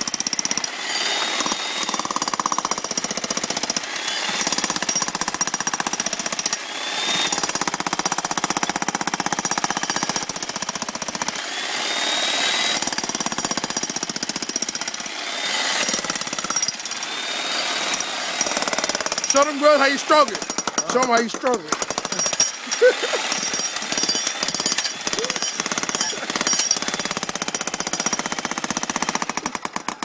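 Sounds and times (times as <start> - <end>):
jackhammer hammering concrete: 0.0 - 30.0.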